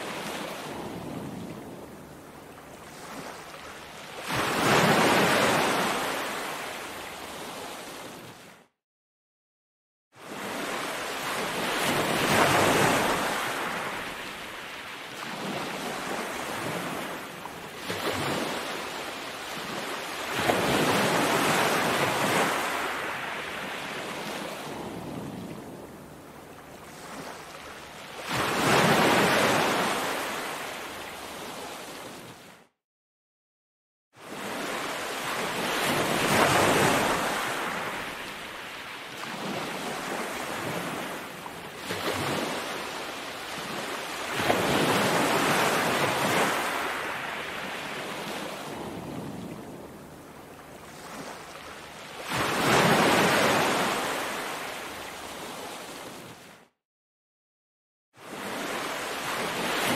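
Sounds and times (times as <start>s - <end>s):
waves breaking on a beach: 0.0s - 8.7s, 10.2s - 32.7s, 34.2s - 56.8s, 58.2s - 59.9s.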